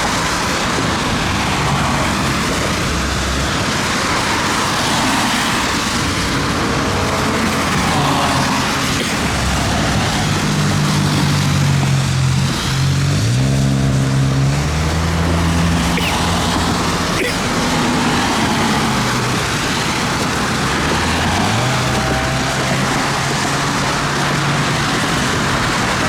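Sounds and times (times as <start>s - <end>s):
rain and wind: 0.0s - 26.0s
vehicle engine humming: 0.0s - 26.0s.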